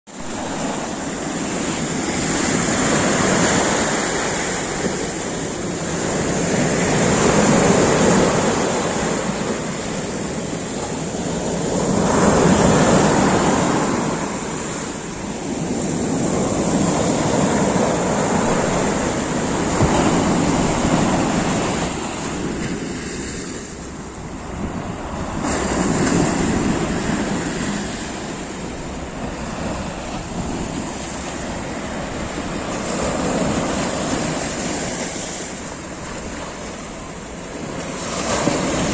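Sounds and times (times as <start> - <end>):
sea waves washing onto beach: 0.1 - 38.9.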